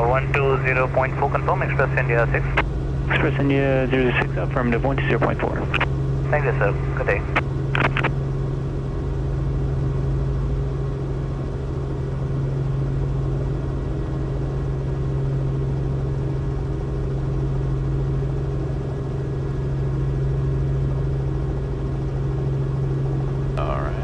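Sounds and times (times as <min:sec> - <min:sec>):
helicopter engine and rotors droning: 0:00.0 - 0:24.0.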